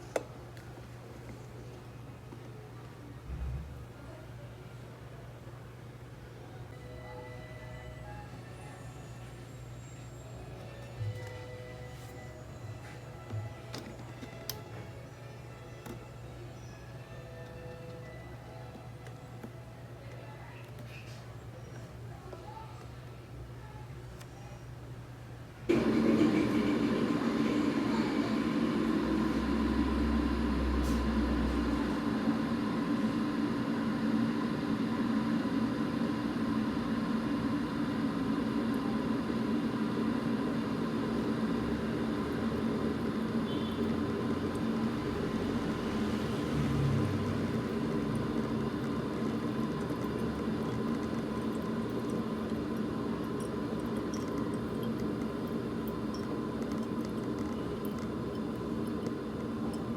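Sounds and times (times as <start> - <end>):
espresso machine humming: 5.9 - 23.4, 25.7 - 59.9.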